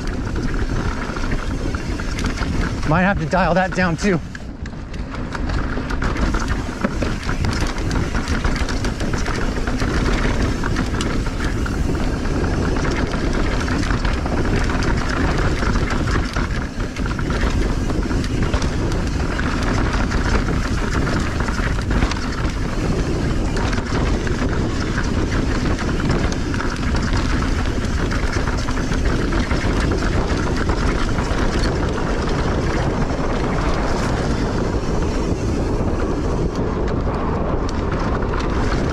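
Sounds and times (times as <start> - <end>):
bike rattling over bumps: 0.0 - 38.9
bike tyres on dirt: 0.0 - 38.9
wind on microphone: 0.0 - 38.9.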